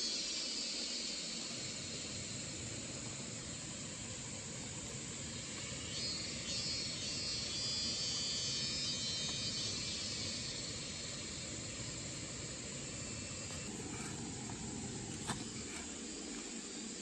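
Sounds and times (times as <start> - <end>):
insect buzzing trill: 0.0 - 17.0
steady rushing hiss: 0.0 - 17.0.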